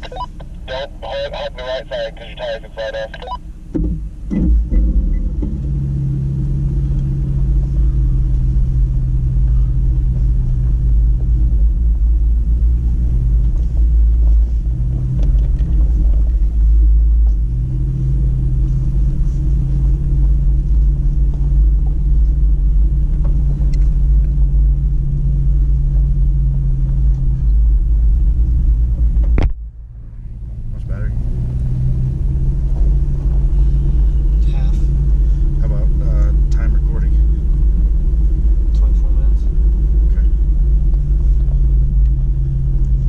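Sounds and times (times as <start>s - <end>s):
engine drone: 0.0s - 43.0s.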